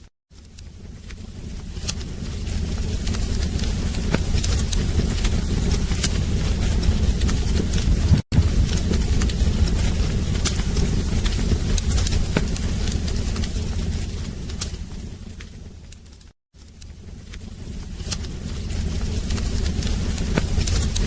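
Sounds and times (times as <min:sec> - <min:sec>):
wood fire crackling: 0:00.3 - 0:21.0.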